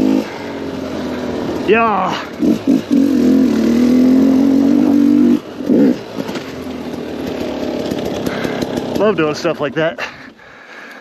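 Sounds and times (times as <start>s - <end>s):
two-stroke engine revving: 0.0s - 10.7s.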